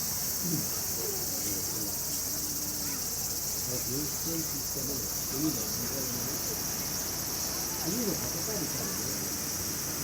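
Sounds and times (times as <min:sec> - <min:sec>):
insects trilling: 0:00.0 - 0:10.0
people talking faintly: 0:00.4 - 0:09.5.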